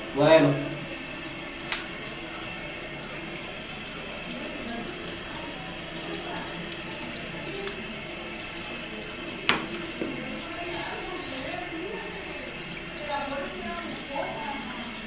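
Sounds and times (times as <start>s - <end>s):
faucet water splashing into sink: 0.0s - 15.0s.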